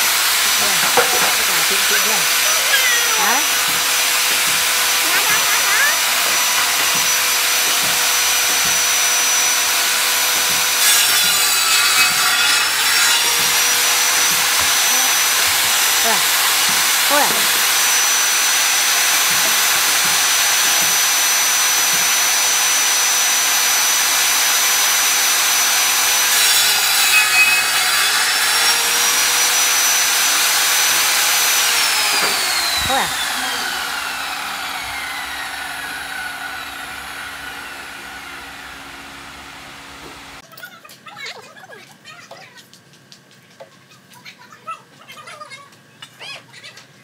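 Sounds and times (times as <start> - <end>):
saw blade winding down: 0.0 - 40.4
table saw cutting wood: 0.0 - 40.4.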